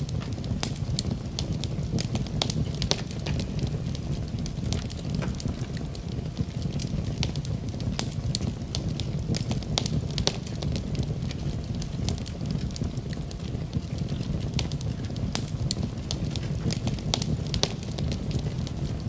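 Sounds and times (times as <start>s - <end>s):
low rumble: 0.0s - 19.0s
wood fire crackling: 0.0s - 19.0s.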